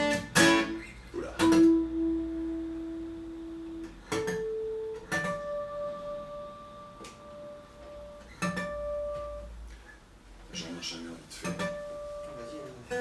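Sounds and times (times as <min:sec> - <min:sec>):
guitar notes plucked: 0:00.0 - 0:09.7, 0:11.4 - 0:13.0.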